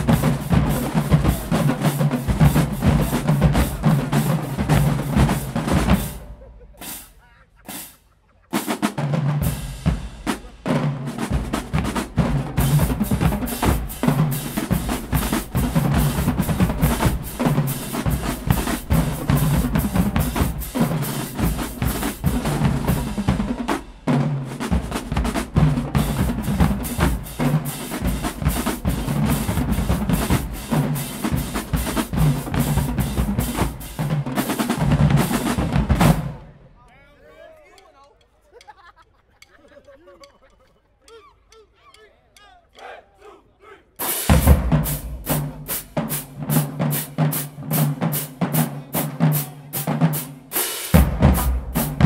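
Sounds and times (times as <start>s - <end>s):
drumline playing fast cadence: 0.0s - 38.8s, 39.4s - 52.0s.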